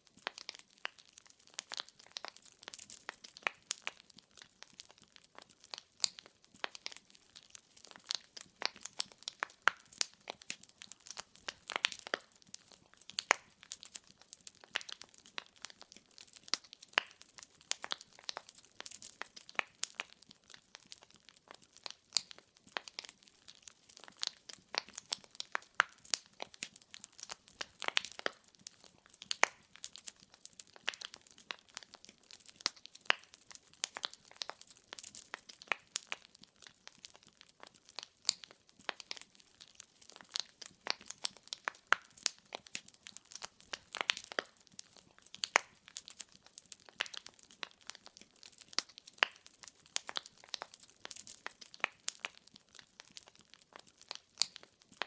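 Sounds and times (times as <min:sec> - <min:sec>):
wood fire crackling in fireplace: 0:00.0 - 0:55.0.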